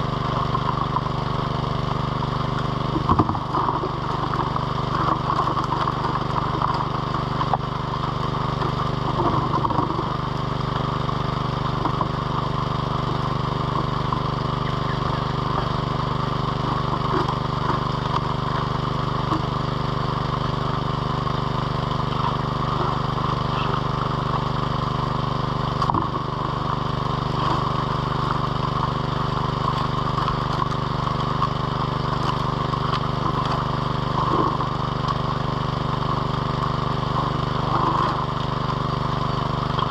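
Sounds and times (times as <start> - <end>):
petrol water pump engine: 0.0 - 39.9.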